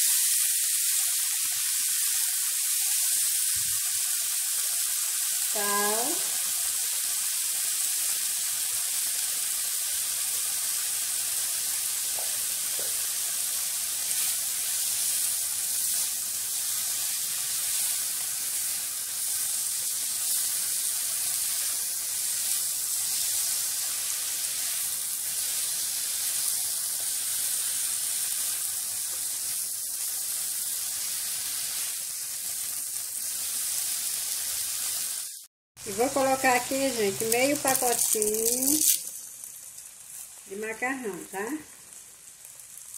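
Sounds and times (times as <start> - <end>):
food sizzling in oil: 0.0 - 42.9.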